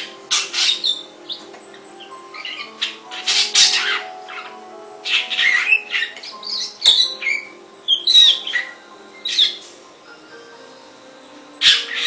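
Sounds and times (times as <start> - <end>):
quiet music with held tones: 0.0 - 12.0
songbird singing: 0.0 - 12.0.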